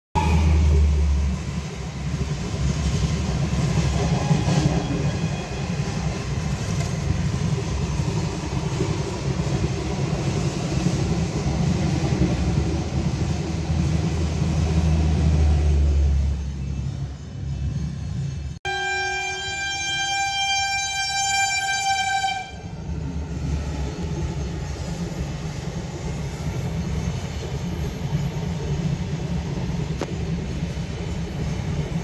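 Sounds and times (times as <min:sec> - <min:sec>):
train wheels rumbling on rails: 0:00.2 - 0:18.6, 0:19.2 - 0:32.0.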